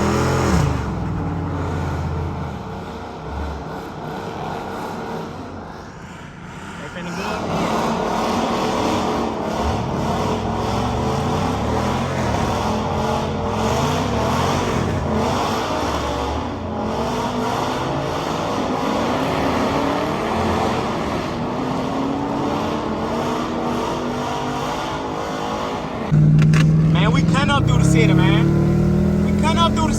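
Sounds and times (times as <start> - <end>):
car engines revving: 0.0 - 29.9.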